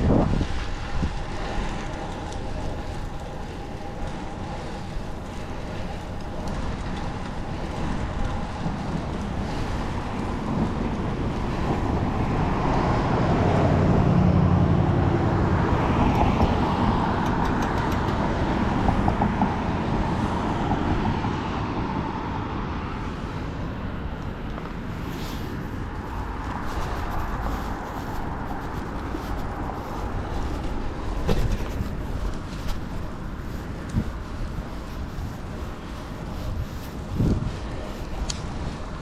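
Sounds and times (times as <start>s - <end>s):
motor vehicle passing: 0.0s - 39.0s
road traffic noise: 0.0s - 39.0s.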